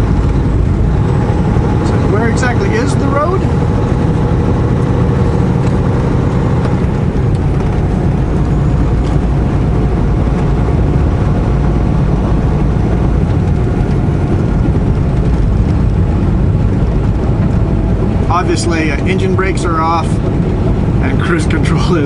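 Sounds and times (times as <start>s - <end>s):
road noise: 0.0s - 22.0s
truck diesel engine drone: 0.0s - 22.0s.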